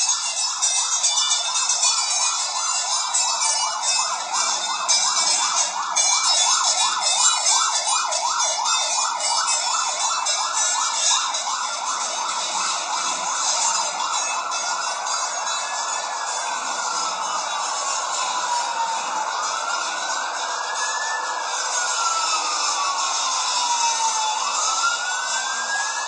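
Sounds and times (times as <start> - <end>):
siren wailing: 0.0 - 26.0
siren yelping: 0.0 - 26.0.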